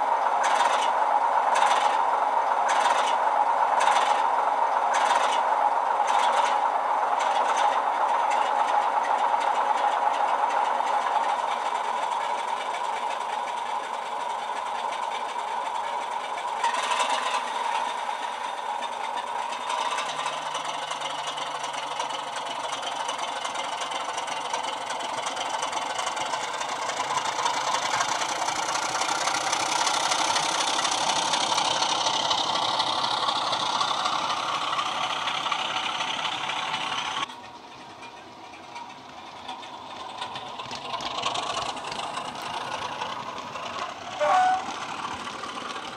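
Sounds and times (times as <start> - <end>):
model diesel engine sound: 0.0 - 45.9.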